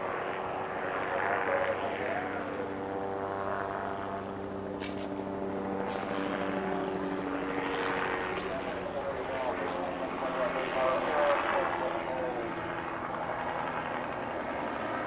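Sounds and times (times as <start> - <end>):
helicopter flying overhead: 0.0 - 15.0.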